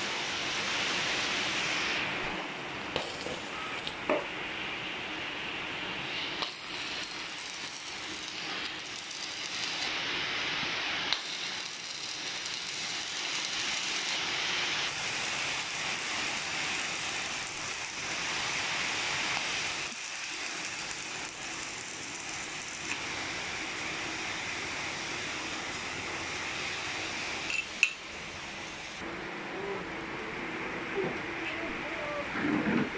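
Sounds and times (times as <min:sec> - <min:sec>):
arc welding crackling hiss: 0:00.0 - 0:29.1.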